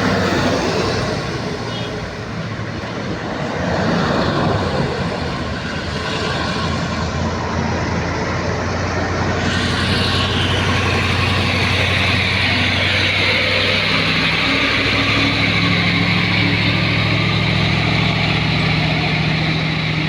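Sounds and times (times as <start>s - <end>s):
high rushing noise: 0.0s - 20.0s
truck engine running under load: 0.0s - 20.0s.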